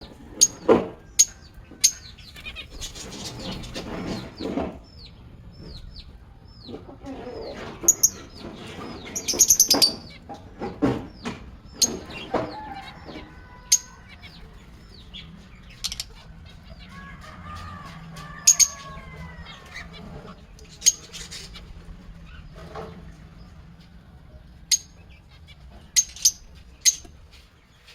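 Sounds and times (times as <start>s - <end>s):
birds chirping: 0.0s - 27.9s
birds squawking: 0.0s - 27.9s.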